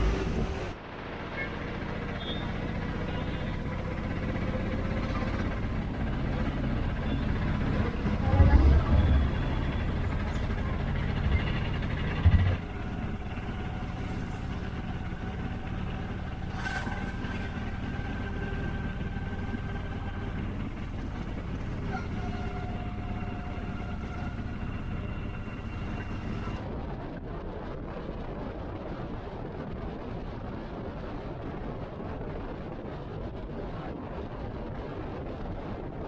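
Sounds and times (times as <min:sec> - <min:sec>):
vehicle engine running: 0:00.0 - 0:28.9.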